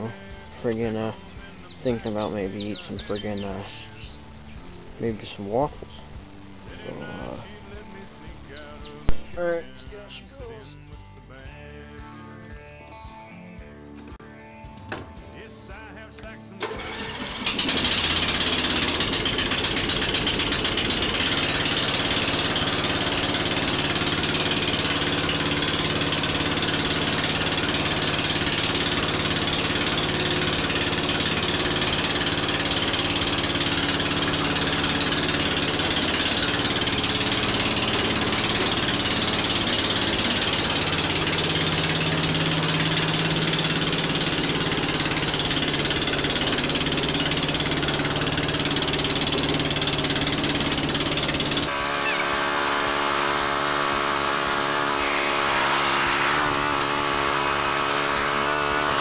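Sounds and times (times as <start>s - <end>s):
garden tractor engine running: 0.0s - 11.0s, 14.7s - 59.0s.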